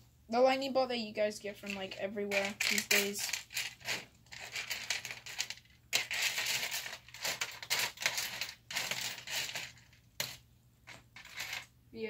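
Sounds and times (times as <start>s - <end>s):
plastic toy bricks rustling and clicking: 1.6s - 11.7s.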